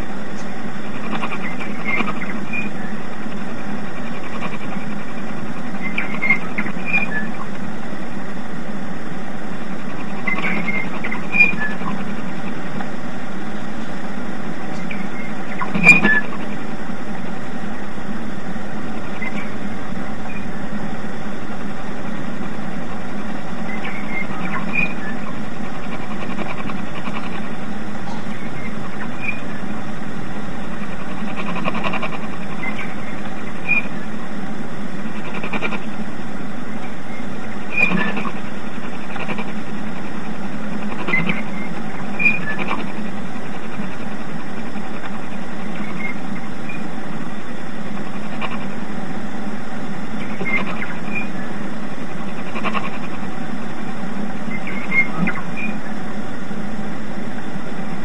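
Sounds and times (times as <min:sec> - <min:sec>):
sharp static crackles: 0:00.0 - 0:58.0
shortwave static and hum: 0:00.0 - 0:58.0.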